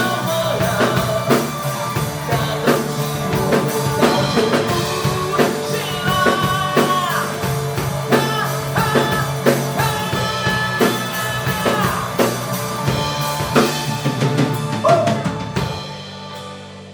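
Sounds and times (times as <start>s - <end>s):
bass line: 0.0s - 16.9s
drum kit beat: 0.0s - 16.9s.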